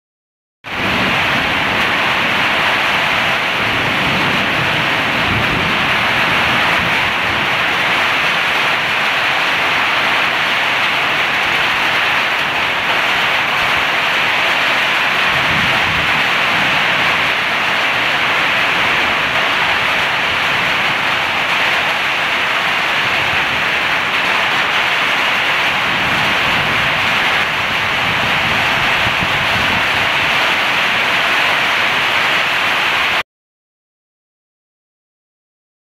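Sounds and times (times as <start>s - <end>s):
heavy rain on concrete: 0.6s - 33.2s.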